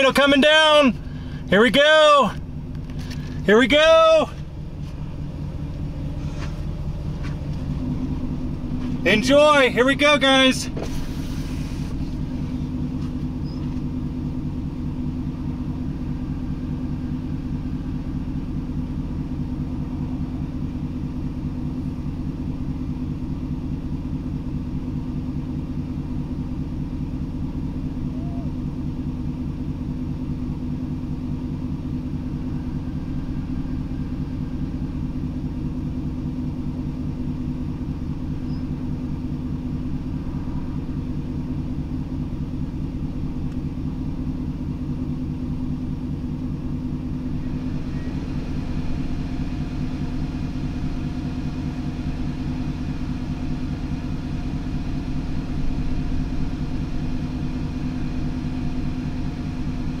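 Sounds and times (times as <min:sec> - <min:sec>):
vehicle engine idling: 0:00.0 - 1:00.0.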